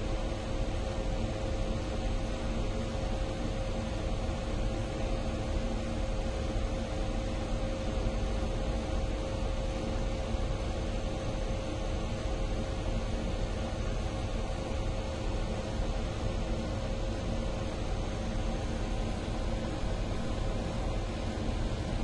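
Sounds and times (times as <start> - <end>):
ceiling fan running: 0.0 - 22.0.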